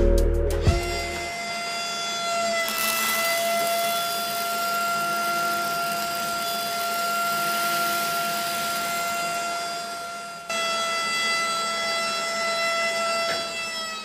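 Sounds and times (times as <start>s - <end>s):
small electric motor whining: 0.8s - 14.0s.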